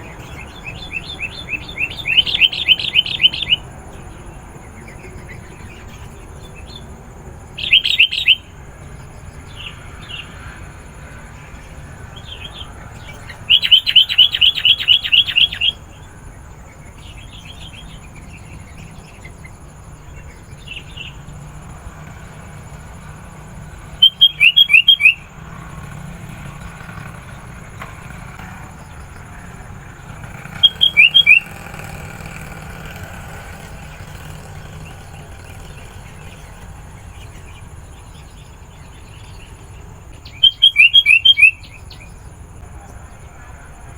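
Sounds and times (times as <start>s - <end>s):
bulbul calling: 0.0s - 43.9s.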